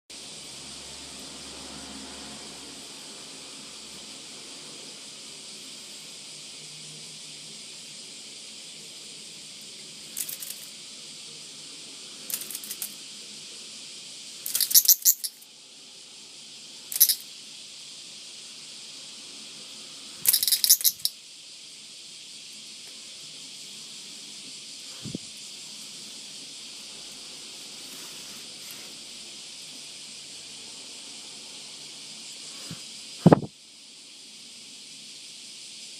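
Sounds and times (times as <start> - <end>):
cicada rattling buzzes: 0.1 - 35.9
steady high hiss: 0.1 - 35.9.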